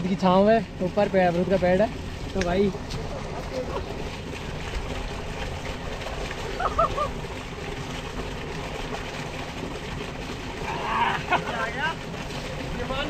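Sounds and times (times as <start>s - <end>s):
water gushing into tank: 0.0s - 13.0s.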